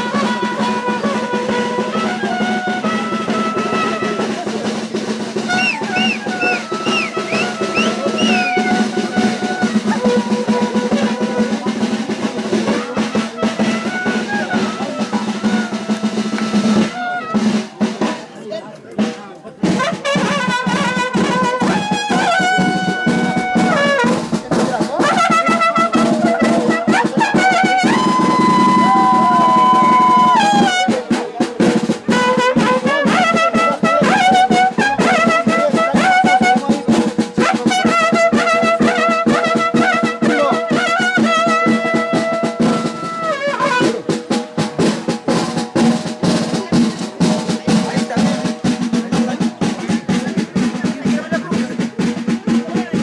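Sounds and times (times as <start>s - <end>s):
brass band playing: 0.0s - 18.3s, 19.0s - 53.0s
drum beat: 0.0s - 53.0s.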